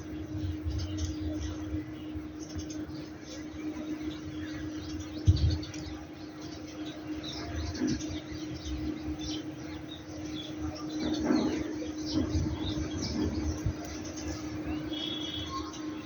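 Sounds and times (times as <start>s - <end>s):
irregular low rumble: 0.0s - 15.1s
low hum: 0.0s - 16.0s
small birds chirping: 0.0s - 16.0s.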